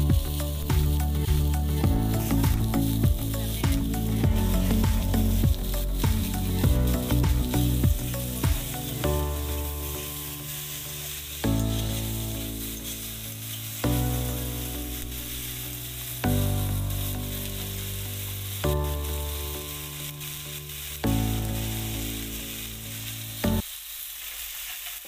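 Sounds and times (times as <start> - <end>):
background music sustained chords: 0.0 - 23.6
vegetables sizzling in hot oil: 0.0 - 25.0.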